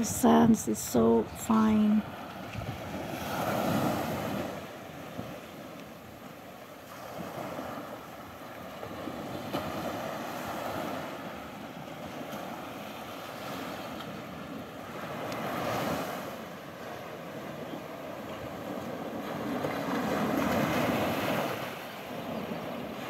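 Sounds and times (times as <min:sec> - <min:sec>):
waves washing up a beach: 0:00.0 - 0:23.0.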